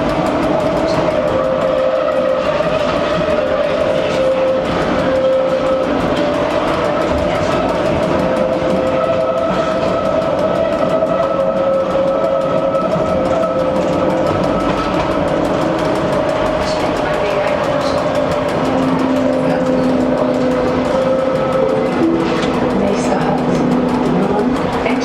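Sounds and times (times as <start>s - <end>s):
electric train motor whine: 0.0s - 25.0s
train wheels rumbling on rails: 0.0s - 25.0s.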